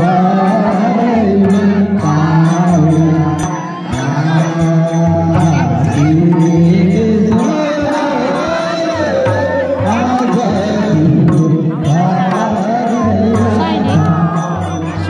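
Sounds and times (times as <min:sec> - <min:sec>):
men singing folk song: 0:00.0 - 0:15.0
hand drum beat: 0:00.8 - 0:15.0.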